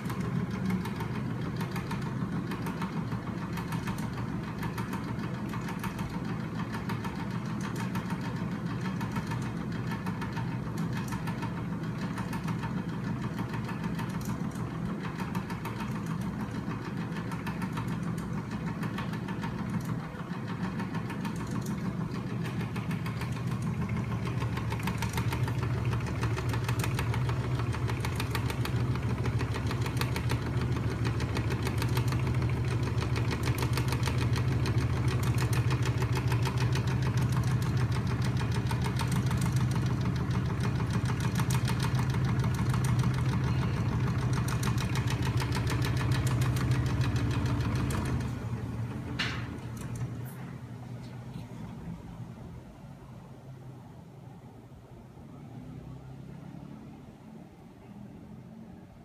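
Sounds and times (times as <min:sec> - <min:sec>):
clatter of moving machine parts: 0:00.0 - 0:48.4
low motor hum: 0:00.0 - 0:53.2.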